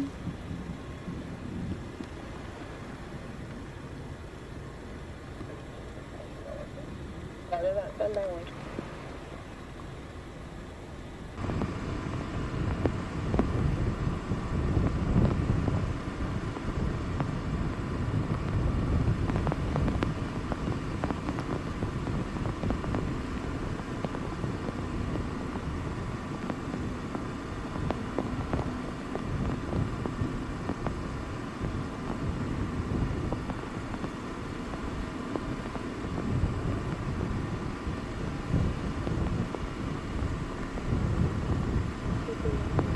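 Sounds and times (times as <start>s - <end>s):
faint steady whine: 0.0s - 42.9s
wind buffeting microphone: 0.0s - 42.9s.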